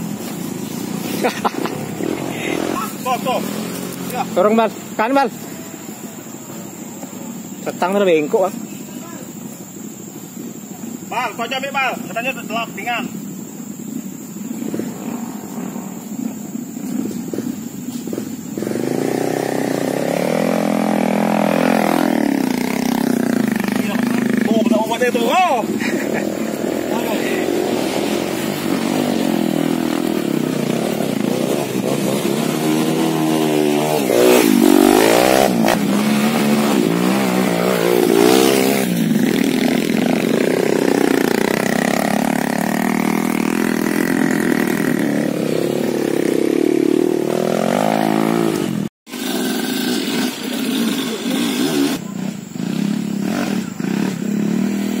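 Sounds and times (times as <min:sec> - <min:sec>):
motorcycle engine revving: 0:00.0 - 0:11.5, 0:12.1 - 0:55.0.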